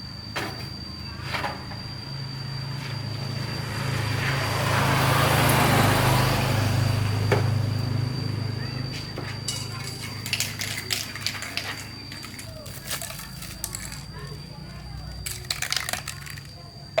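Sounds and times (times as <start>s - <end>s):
vehicle engine hum and hiss: 0.0s - 17.0s.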